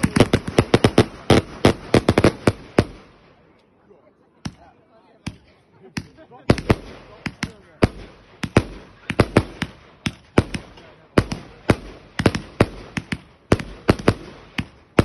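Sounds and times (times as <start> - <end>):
fireworks bangs: 0.0 - 3.5, 5.3 - 15.0.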